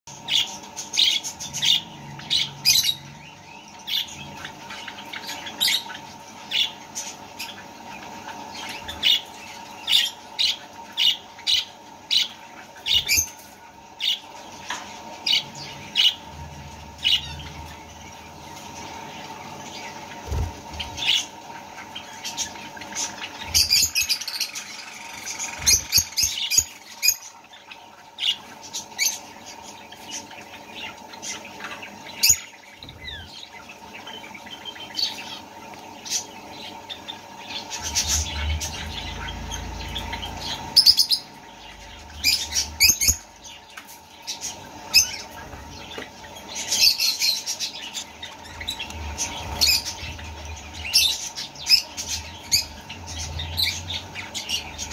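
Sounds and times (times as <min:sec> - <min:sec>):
budgerigars chirping and squawking: 0:00.1 - 0:54.9
faint steady hum: 0:00.1 - 0:54.9.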